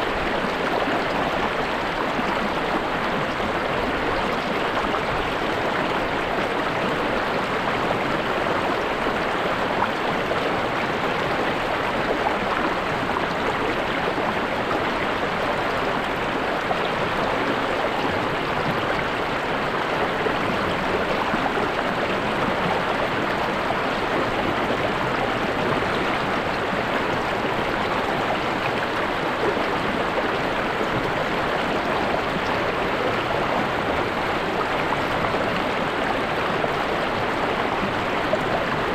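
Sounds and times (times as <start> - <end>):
stream water flowing over rocks: 0.0 - 38.9.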